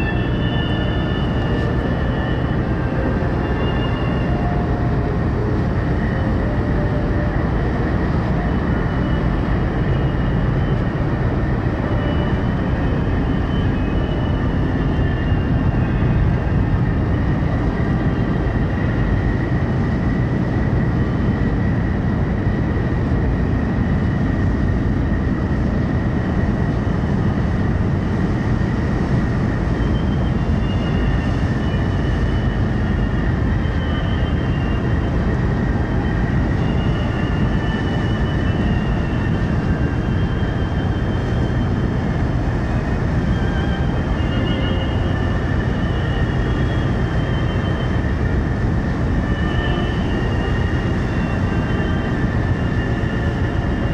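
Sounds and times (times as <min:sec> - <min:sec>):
ship diesel engines rumbling: 0:00.0 - 0:53.9
wind buffeting microphone: 0:00.0 - 0:53.9.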